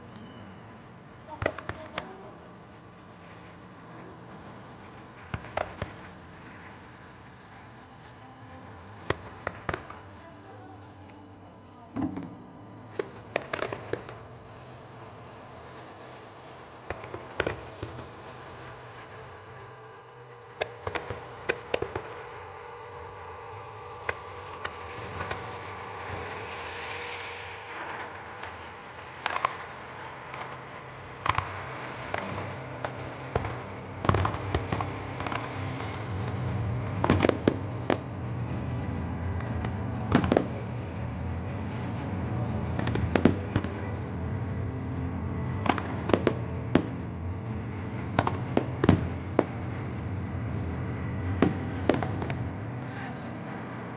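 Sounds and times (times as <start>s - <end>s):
fireworks bangs and crackles: 0.0s - 11.4s, 12.0s - 19.7s, 20.5s - 53.9s
low background rumble: 0.0s - 53.9s.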